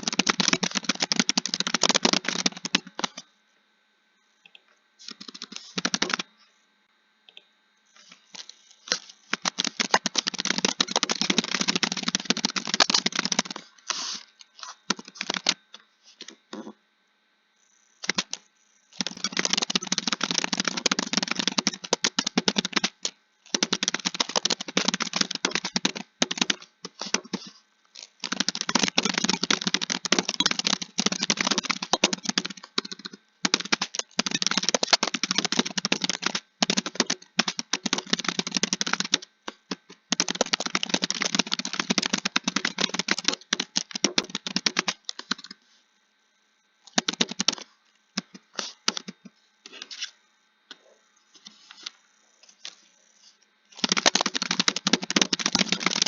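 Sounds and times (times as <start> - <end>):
rapid keyboard typing: 0.0 - 3.3, 5.0 - 6.3, 8.0 - 16.4, 18.0 - 45.6, 46.8 - 49.8, 53.7 - 56.0.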